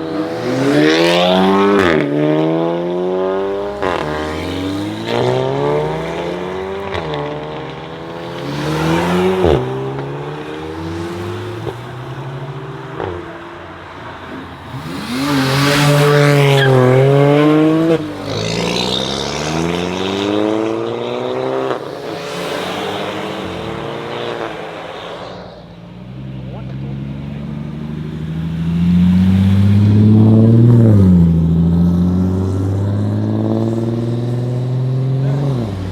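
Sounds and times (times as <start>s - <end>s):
cars accelerating hard: 0.0s - 35.9s.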